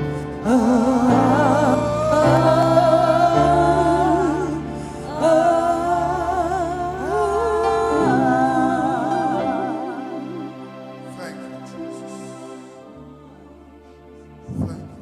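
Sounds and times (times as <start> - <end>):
person singing gospel: 0.0 - 15.0
sustained accompaniment chords: 0.0 - 15.0.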